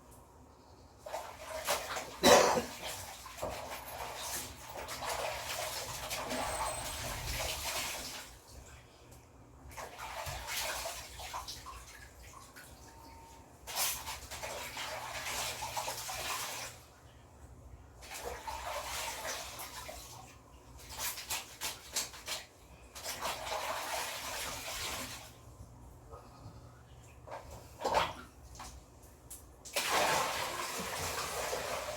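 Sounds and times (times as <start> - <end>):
clothes sloshing and scrubbing in water: 1.0 - 17.3, 18.0 - 25.8, 27.0 - 31.9.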